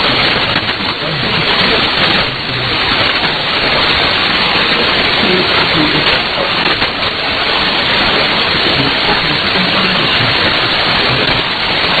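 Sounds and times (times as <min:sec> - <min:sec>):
radio static hiss: 0:00.0 - 0:12.0
weak voice under static: 0:00.0 - 0:12.0.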